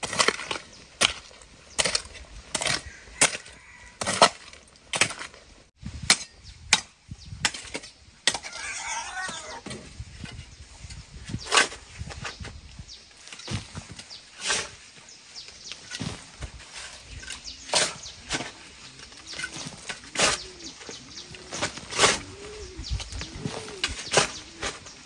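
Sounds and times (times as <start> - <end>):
shovel scraping through dirt: 0.0 - 5.4, 6.0 - 12.6, 13.2 - 25.0.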